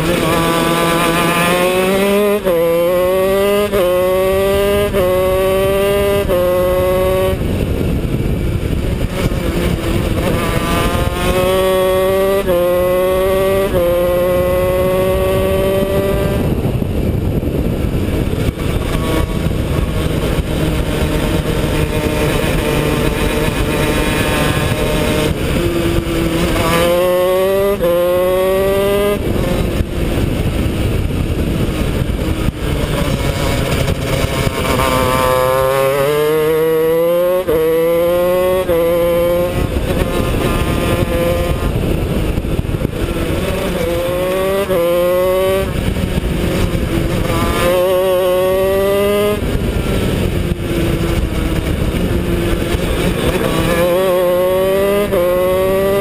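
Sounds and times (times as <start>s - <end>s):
two-stroke kart engine revving: 0.0s - 56.0s.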